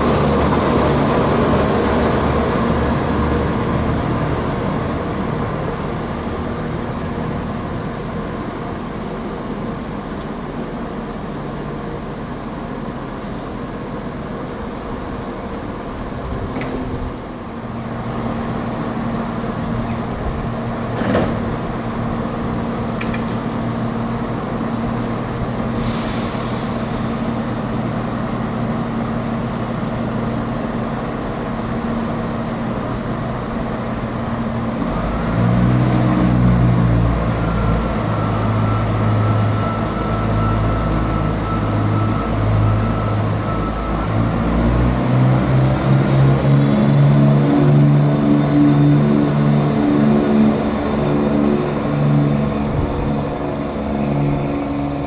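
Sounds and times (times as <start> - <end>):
diesel train engines: 0.0 - 55.0.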